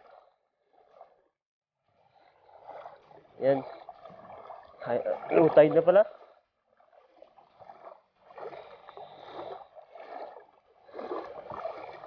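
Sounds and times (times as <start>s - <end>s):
river water sloshing around legs: 0.0s - 12.0s.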